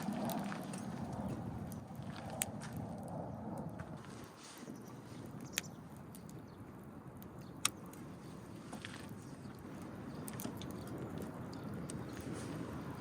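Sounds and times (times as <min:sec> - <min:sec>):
firewood popping: 0:00.0 - 0:13.0
wood fire crackling: 0:00.0 - 0:13.0.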